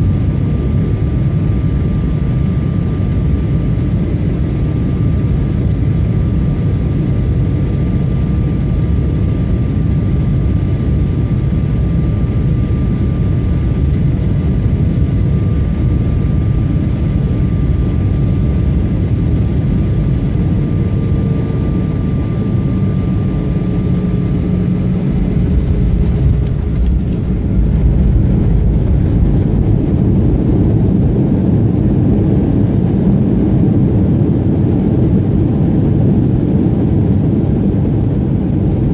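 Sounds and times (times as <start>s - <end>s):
airplane rumble with high whine: 0.0s - 38.9s.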